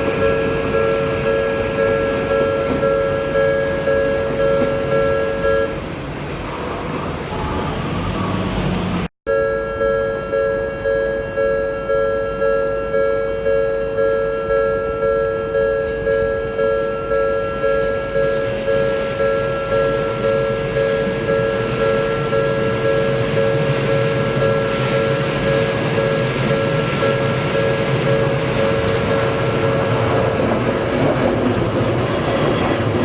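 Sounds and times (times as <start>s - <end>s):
level crossing warning bell: 0.0s - 6.4s, 9.3s - 31.0s
train rumble: 0.0s - 9.1s, 14.5s - 33.0s.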